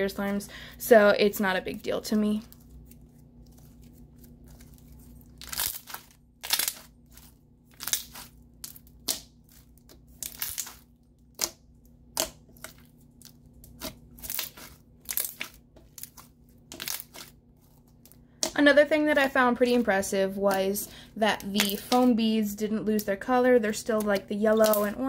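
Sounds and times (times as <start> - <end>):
slime squishing: 1.4 - 25.0.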